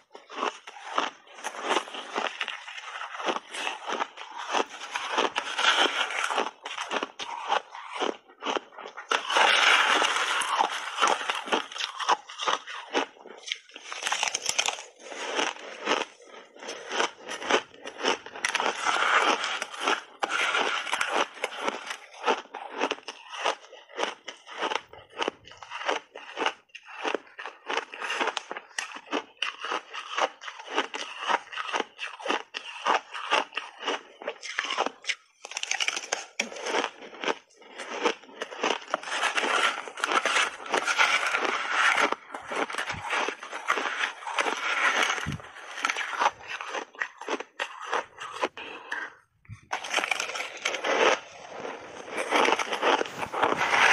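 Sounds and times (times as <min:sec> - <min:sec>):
chewing crushed ice: 0:00.0 - 0:53.9.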